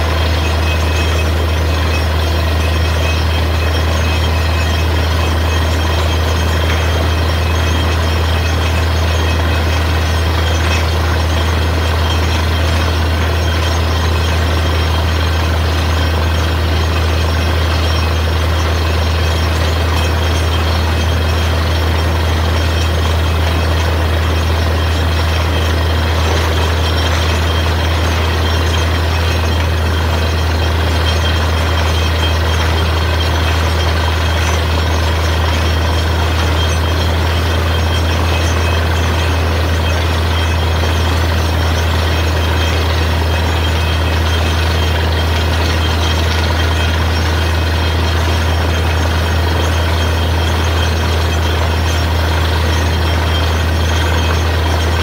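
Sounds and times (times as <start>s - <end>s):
drilling rig engine droning: 0.0s - 55.0s
machine noise: 0.0s - 55.0s.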